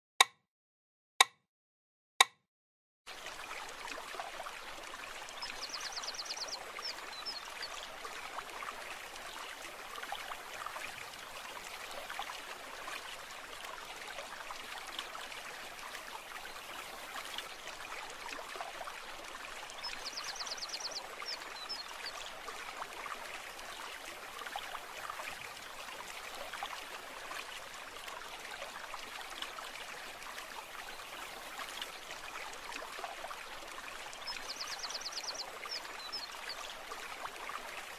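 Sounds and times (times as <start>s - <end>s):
stream babbling over stones: 3.1s - 37.9s.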